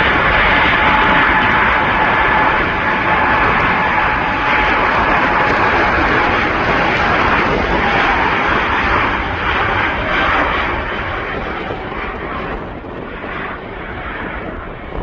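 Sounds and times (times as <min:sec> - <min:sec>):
airplane engine roar: 0:00.0 - 0:15.0.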